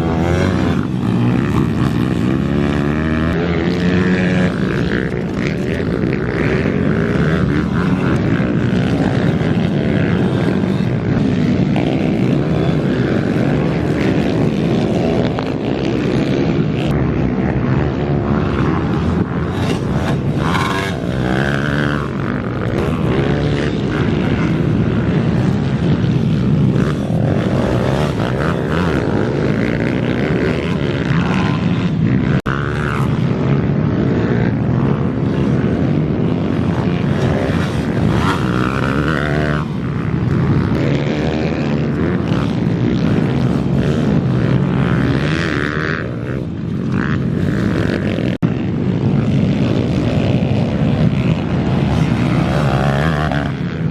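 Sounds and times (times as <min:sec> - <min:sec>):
pit bike engines revving: 0:00.0 - 0:53.9.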